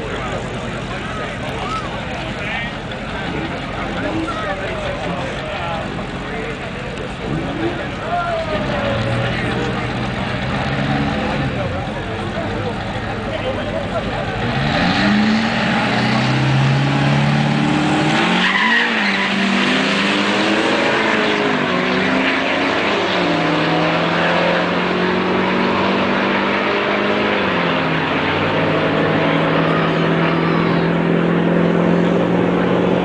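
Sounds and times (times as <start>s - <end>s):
truck engines at full throttle: 0.0s - 33.0s.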